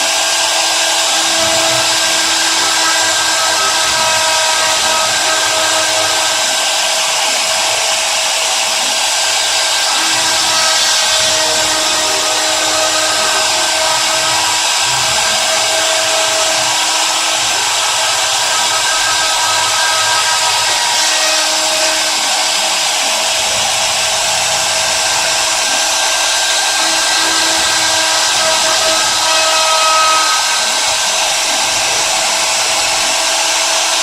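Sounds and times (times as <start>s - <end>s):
router spindle motor whining: 0.0s - 34.0s.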